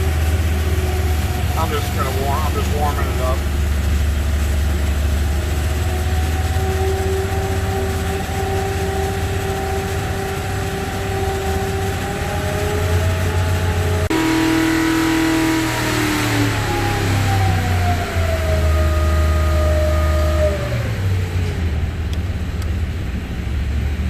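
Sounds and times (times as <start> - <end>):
race engine running on dyno: 0.0 - 24.0.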